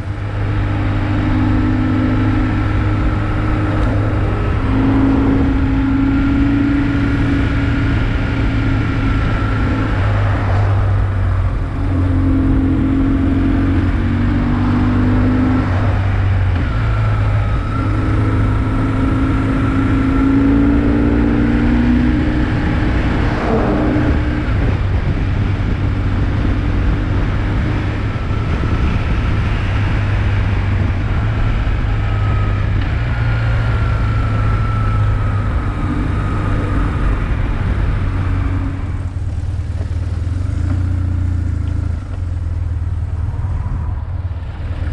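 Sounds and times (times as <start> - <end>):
motorcycle engine running: 0.0 - 44.9
wind rushing past microphone: 0.0 - 44.9.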